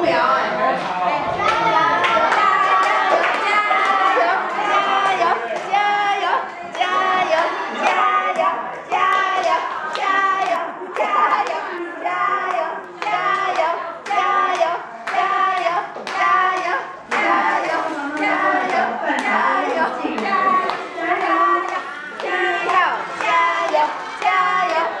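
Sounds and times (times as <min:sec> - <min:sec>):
people singing: 0:00.0 - 0:25.0.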